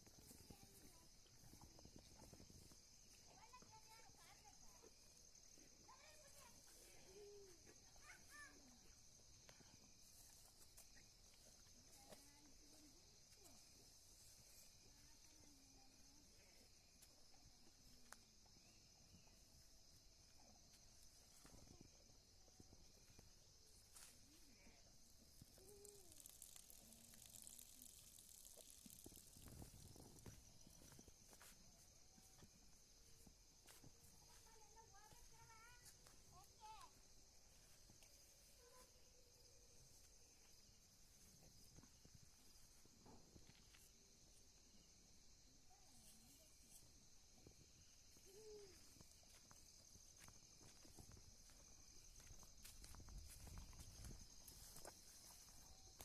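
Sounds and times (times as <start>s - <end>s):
faint high-pitched hiss: 0.0s - 56.0s
high insect drone: 0.0s - 56.0s.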